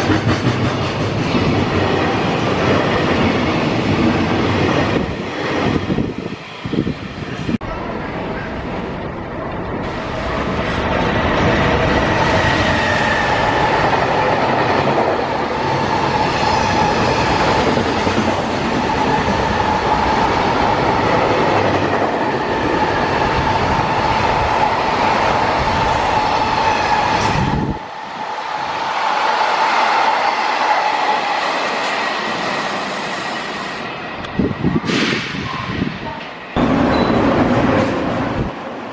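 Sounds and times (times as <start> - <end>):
freight train passing: 0.0 - 38.9.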